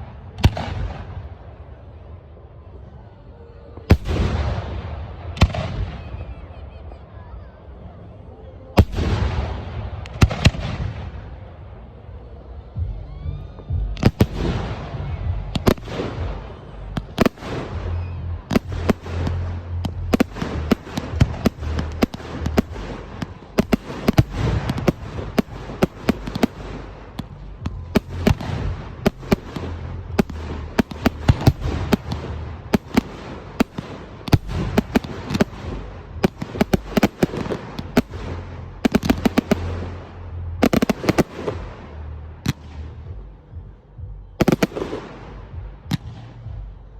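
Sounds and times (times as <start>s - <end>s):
fireworks bangs: 0.0s - 1.9s, 8.8s - 12.0s, 13.6s - 46.8s.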